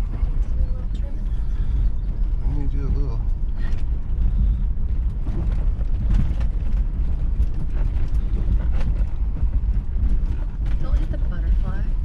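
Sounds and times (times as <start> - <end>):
vehicle body knocks and rattles: 0.0 - 11.9
vehicle engine rumbling: 0.0 - 12.0.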